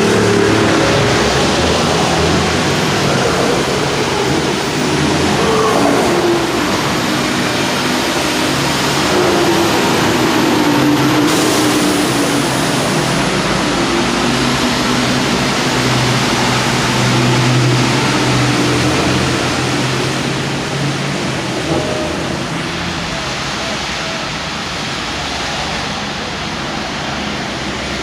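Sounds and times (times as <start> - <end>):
passing road traffic: 0.0 - 28.0
rainwater rushing: 0.0 - 28.0.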